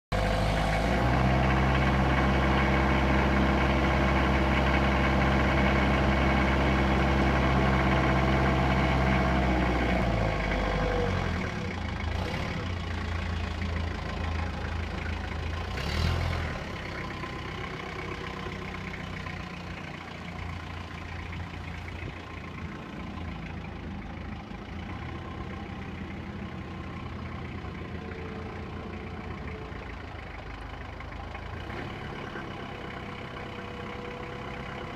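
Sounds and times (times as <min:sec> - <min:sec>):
diesel engine idling: 0:00.1 - 0:34.9
diesel engine running: 0:00.1 - 0:34.9.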